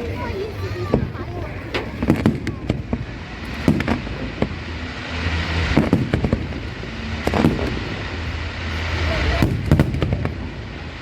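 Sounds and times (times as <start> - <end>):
fireworks bangs: 0.0 - 11.0
sizzling crackle of fireworks: 0.0 - 11.0.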